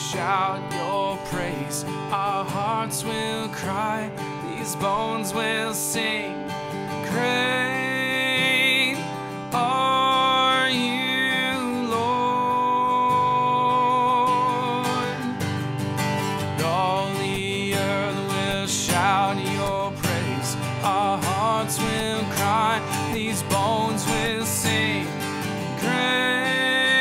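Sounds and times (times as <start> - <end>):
acoustic guitar strumming: 0.0 - 27.0
person singing with vibrato: 0.0 - 27.0.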